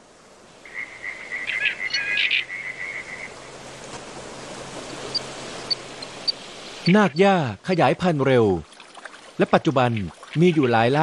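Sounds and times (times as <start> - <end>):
soft background hiss: 0.0 - 11.0.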